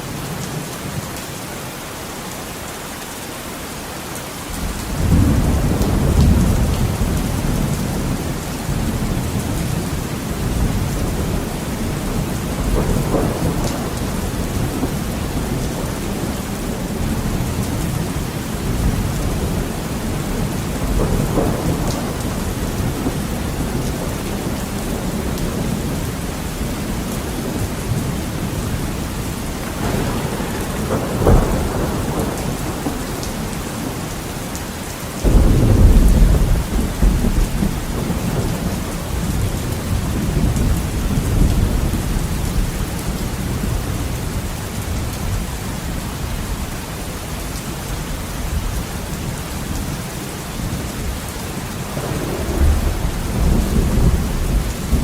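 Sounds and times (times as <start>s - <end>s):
heavy rain on a window: 0.0s - 55.0s
thunder crack and rumble: 4.6s - 34.4s, 35.2s - 46.0s, 50.6s - 55.0s.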